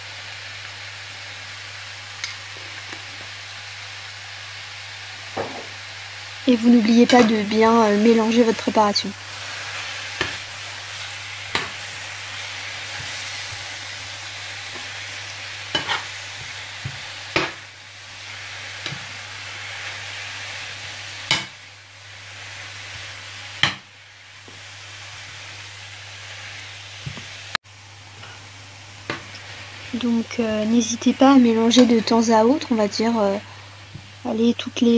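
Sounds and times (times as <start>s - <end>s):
courgettes sizzling in oil: 0.0s - 34.9s.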